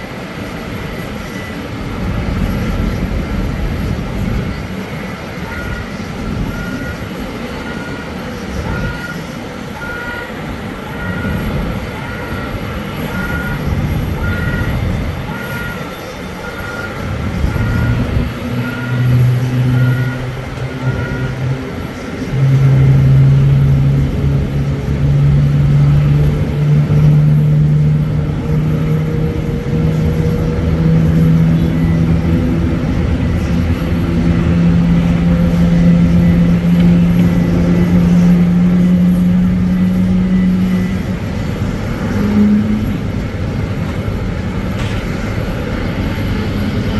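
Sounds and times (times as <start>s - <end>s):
vehicle reversing beeps: 0.7s - 43.1s.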